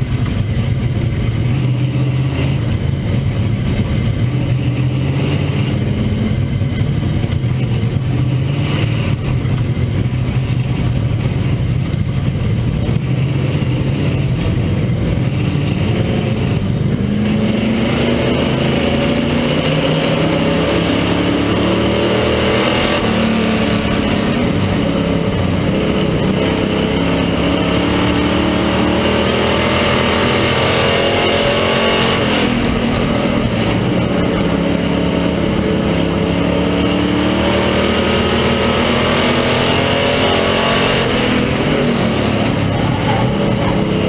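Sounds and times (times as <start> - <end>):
stock car engine running hard: 0.0 - 44.0.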